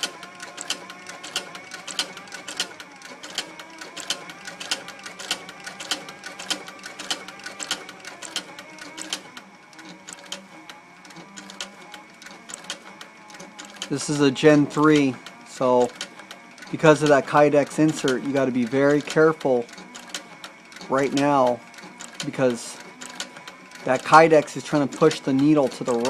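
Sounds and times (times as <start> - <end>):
sewing machine clacking: 0.0 - 26.0
sewing machine motor hum: 0.0 - 26.0.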